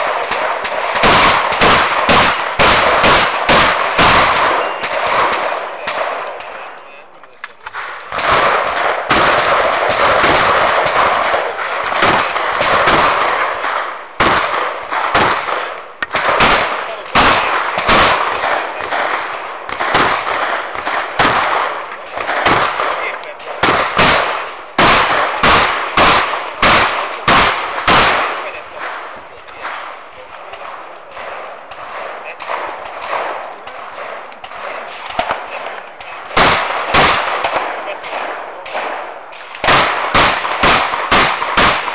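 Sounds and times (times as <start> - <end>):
shotgun shots with echo: 0.0 - 41.9.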